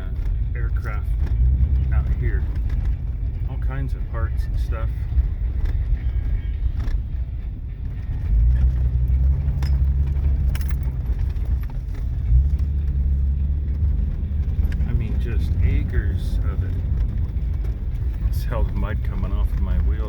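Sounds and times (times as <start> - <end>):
car engine and tyre rumble: 0.0 - 20.0
light knocks and rattles: 1.1 - 20.0.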